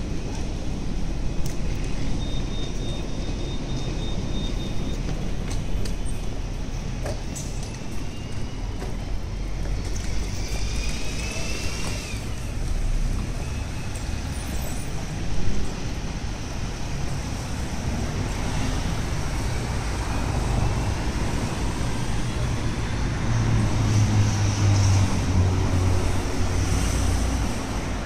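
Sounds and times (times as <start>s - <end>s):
cars and buses passing: 0.0s - 28.0s.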